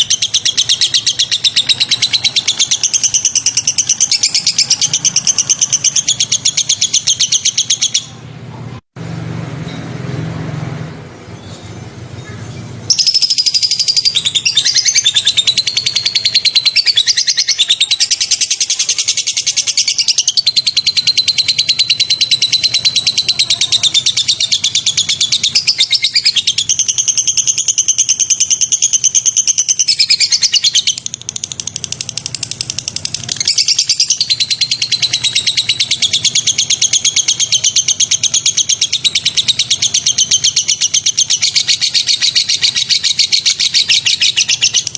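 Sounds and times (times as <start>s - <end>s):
songbird rattling trill: 0.0s - 8.1s, 12.9s - 44.9s.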